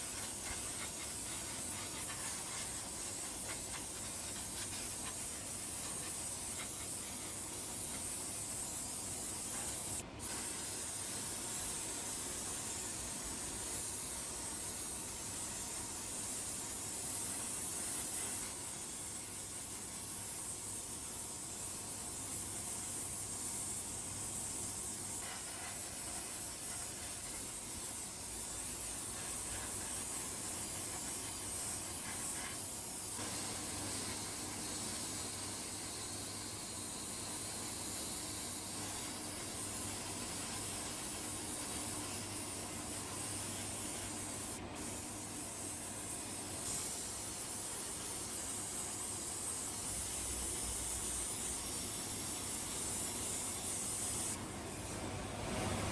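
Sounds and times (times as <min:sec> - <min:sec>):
compressed-air spray hiss: 0:00.0 - 0:55.9.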